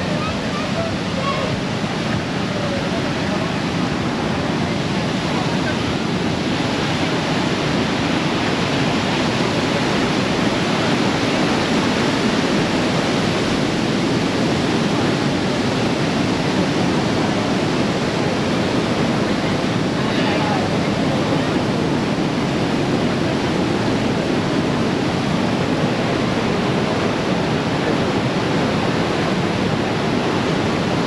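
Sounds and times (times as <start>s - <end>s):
roar of waterfall: 0.0s - 31.0s.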